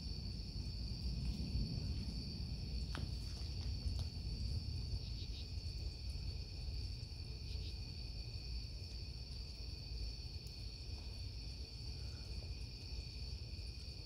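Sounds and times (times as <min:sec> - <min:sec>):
crickets trilling: 0:00.0 - 0:14.0
lower insect band: 0:00.0 - 0:14.0.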